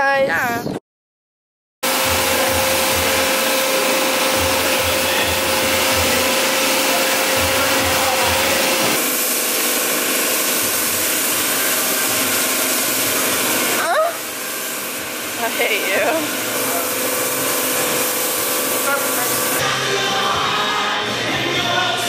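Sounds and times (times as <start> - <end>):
pressure washer spraying water: 1.8 - 19.7.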